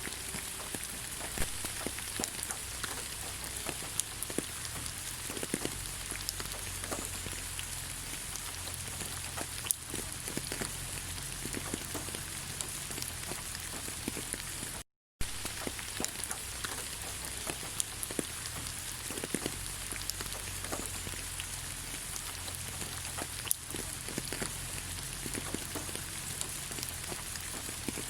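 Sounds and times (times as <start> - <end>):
rain falling on leaves: 0.0 - 28.0.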